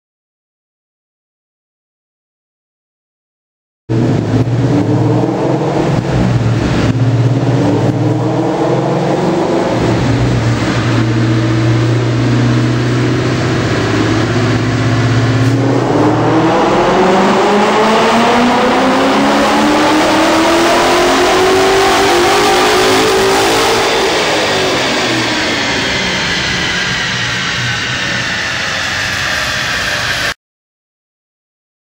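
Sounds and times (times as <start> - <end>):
car engine on a dyno: 3.9 - 30.4.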